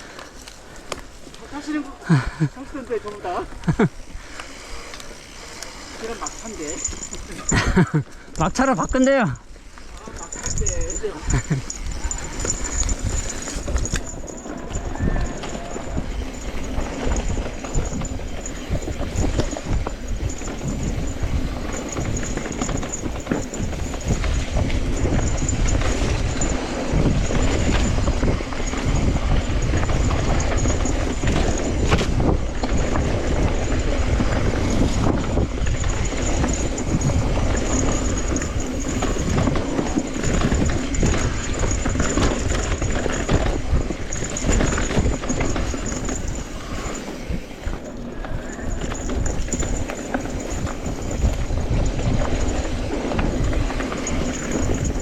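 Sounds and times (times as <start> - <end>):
bike clattering and rattling: 0.0 - 55.0.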